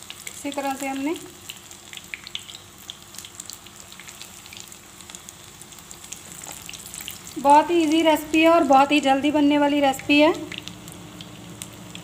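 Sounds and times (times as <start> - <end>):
oil sizzling with crackles: 0.0 - 12.0.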